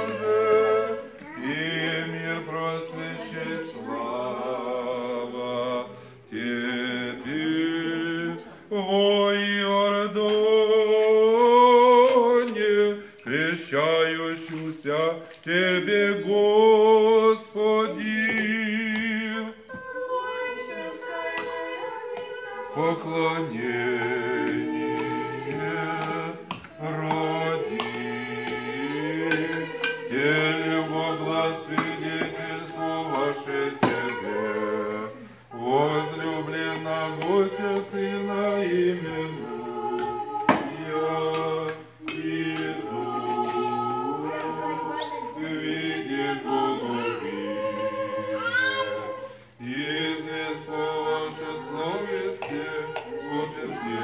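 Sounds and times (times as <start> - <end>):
choir singing chant: 0.0 - 54.0.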